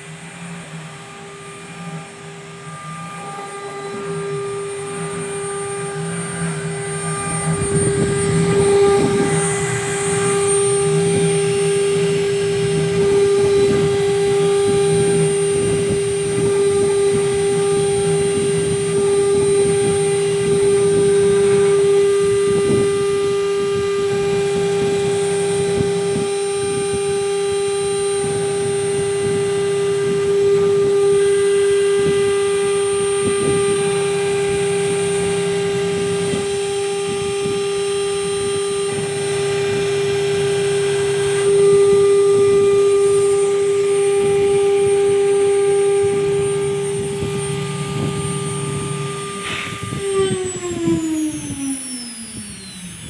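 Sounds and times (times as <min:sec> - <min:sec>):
low machine hum: 0:00.0 - 0:53.0
router spindle whine: 0:00.0 - 0:53.0.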